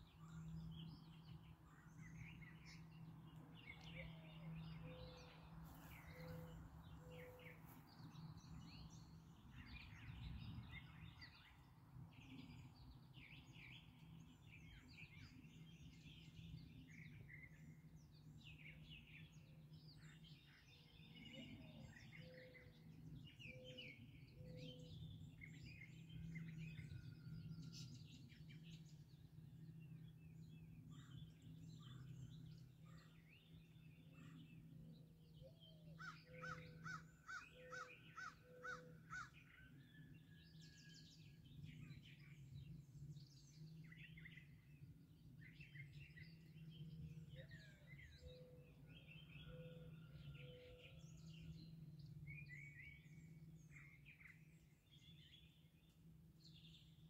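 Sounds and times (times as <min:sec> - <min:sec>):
birds chirping and singing: 0:00.0 - 0:57.0.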